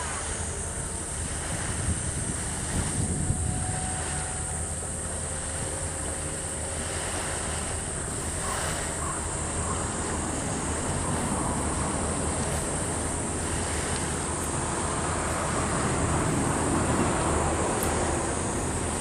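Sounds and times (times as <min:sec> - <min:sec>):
boat engine droning: 0:00.0 - 0:19.0
sea wash: 0:00.0 - 0:19.0
wind on microphone: 0:00.0 - 0:19.0.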